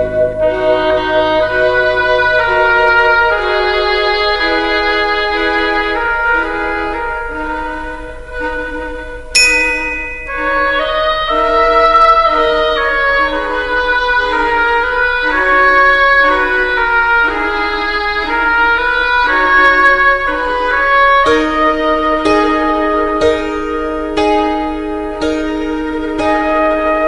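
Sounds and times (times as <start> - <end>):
slow instrumental music: 0.0 - 27.0.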